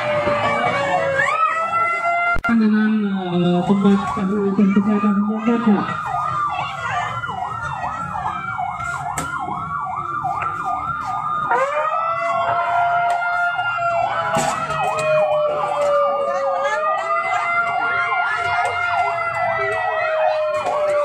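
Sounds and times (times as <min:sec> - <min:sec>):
siren wailing: 0:00.0 - 0:21.0
siren yelping: 0:00.0 - 0:21.0.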